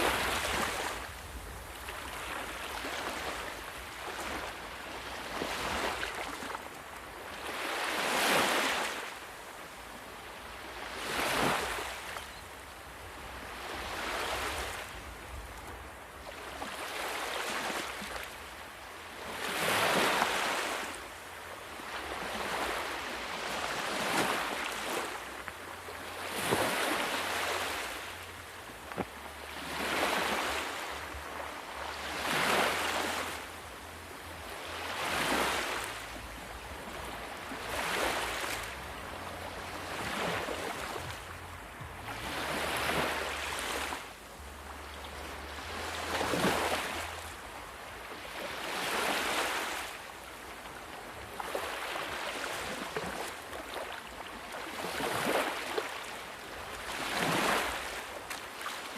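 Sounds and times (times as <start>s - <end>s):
ocean waves breaking: 0.0s - 12.4s, 13.1s - 58.9s.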